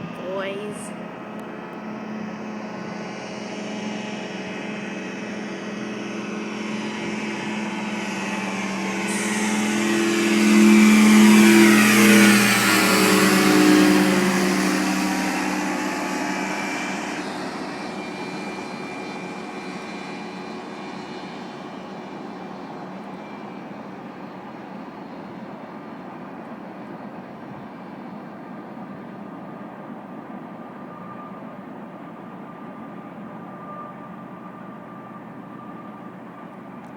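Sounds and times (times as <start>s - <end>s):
ultralight aircraft engine passing: 0.0s - 36.9s.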